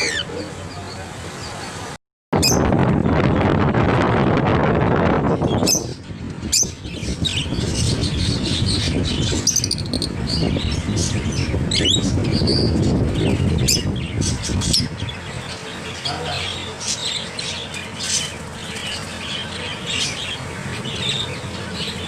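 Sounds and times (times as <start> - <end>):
birds chirping and squawking: 0.0 - 2.7, 5.1 - 22.0.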